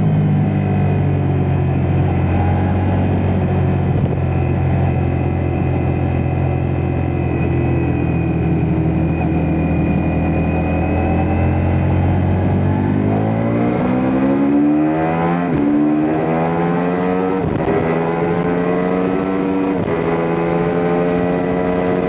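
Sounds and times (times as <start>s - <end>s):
motorcycle engine running: 0.0s - 14.6s, 15.2s - 22.0s.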